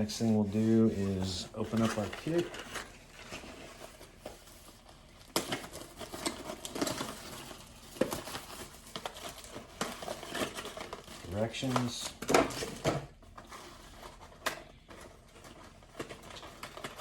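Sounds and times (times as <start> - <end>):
packaging crinkling and rustling: 0.0 - 17.0
packaging crackles: 1.0 - 17.0.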